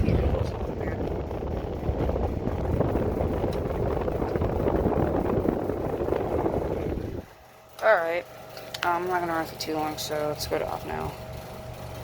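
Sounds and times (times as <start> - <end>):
fan rattling: 0.0 - 12.0
table fan running: 0.0 - 12.0.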